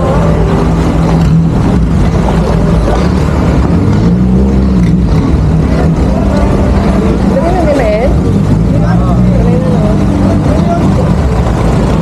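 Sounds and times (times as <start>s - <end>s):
engine running loudly: 0.0s - 12.0s.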